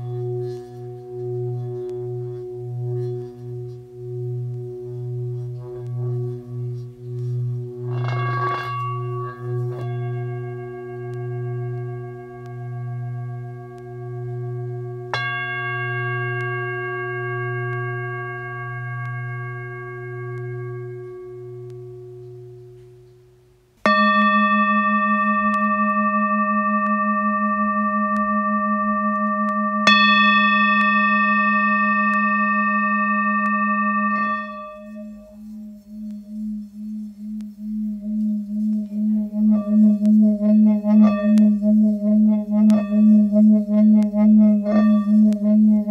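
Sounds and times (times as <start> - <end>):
singing bowls ringing: 0.0 - 23.0, 23.8 - 45.9.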